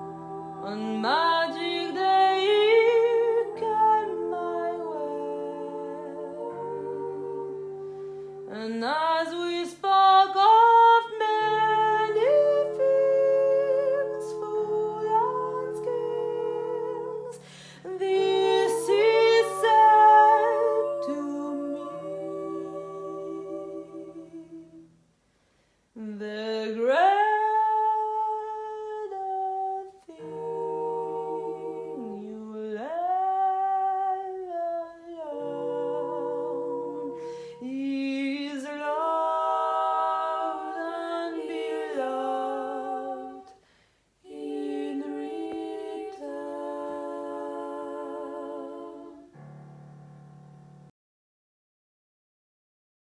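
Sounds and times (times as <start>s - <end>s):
mezzo-soprano voice singing: 0.0s - 24.9s, 26.0s - 43.6s, 44.2s - 49.6s.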